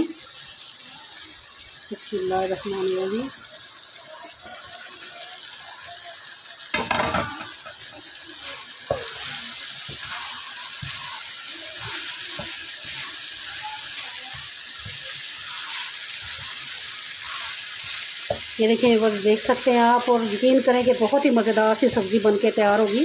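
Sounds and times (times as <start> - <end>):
vegetables sizzling in pan: 0.0 - 23.0.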